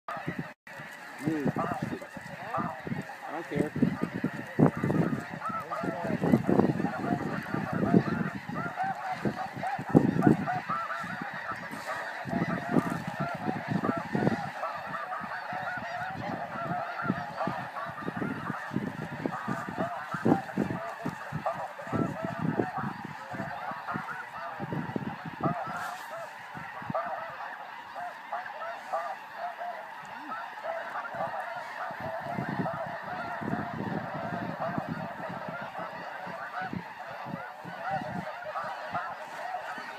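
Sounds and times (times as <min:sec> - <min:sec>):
flock of geese honking: 0:00.1 - 0:39.9.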